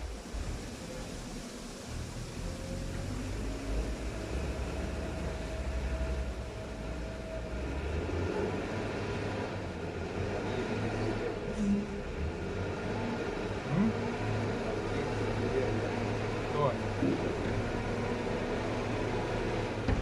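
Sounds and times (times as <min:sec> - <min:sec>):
heavy machinery engines rumbling: 0:00.0 - 0:20.0.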